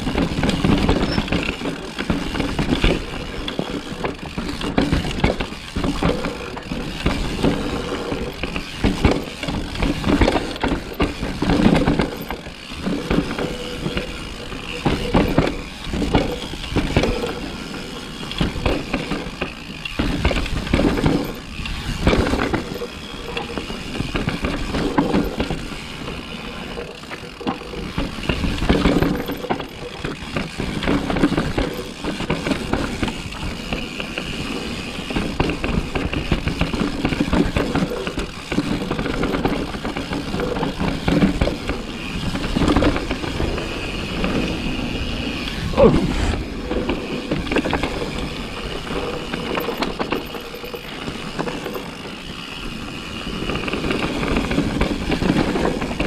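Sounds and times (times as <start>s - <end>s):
bike knocking and rattling: 0.0s - 56.0s
bike tyres over dirt and stones: 0.0s - 56.0s.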